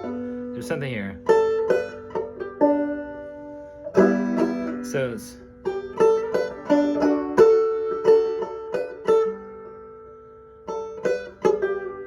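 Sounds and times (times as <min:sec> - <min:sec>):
banjo plucked notes: 0:00.0 - 0:12.0.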